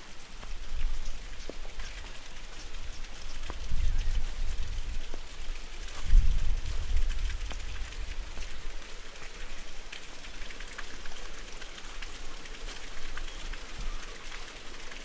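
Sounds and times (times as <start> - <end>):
raindrops ticking on surfaces: 0.0 - 15.0.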